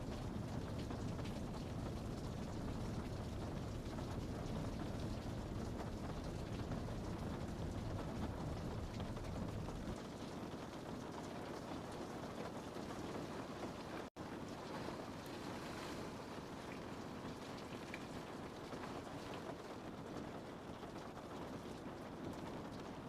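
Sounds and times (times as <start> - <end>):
faint raindrop ticks: 0.0 - 15.4, 16.6 - 23.0
rain on a window pane: 0.0 - 23.0.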